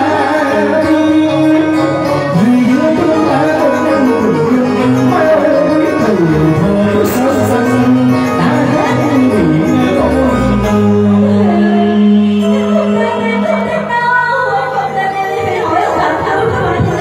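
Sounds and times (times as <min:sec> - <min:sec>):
man singing through microphone: 0:00.0 - 0:14.0
live band playing: 0:00.0 - 0:17.0.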